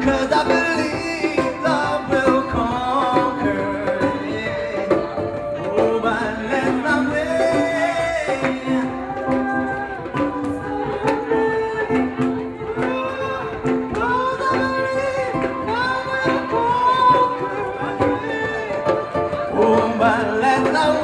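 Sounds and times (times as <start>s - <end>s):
sharp hand-percussion strokes: 0.0s - 21.0s.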